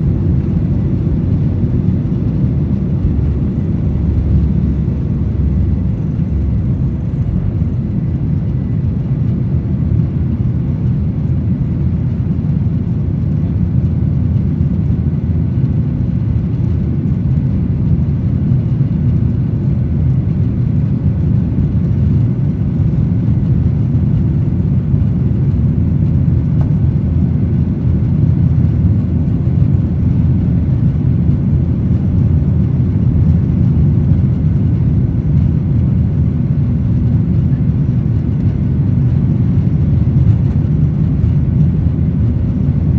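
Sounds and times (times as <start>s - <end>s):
jet engine cabin rumble: 0.0s - 42.9s.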